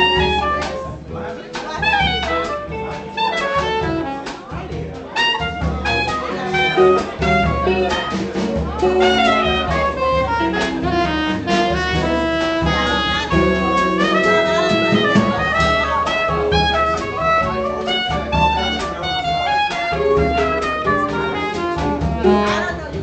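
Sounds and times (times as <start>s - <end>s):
drums: 0.0s - 23.0s
soprano saxophone jazz solo: 0.0s - 23.0s
upright bass: 0.0s - 23.0s.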